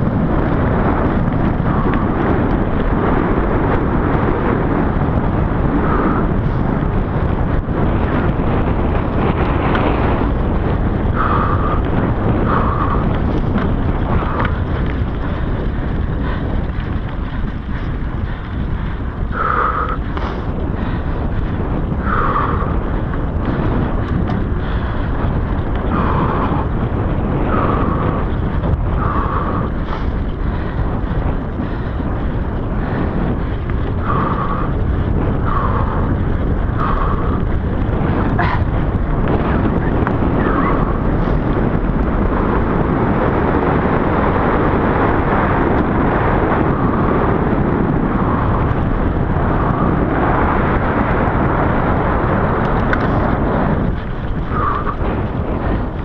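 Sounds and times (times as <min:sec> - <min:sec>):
bike tyre and frame rumble: 0:00.0 - 0:56.0
wind buffeting microphone: 0:00.0 - 0:56.0.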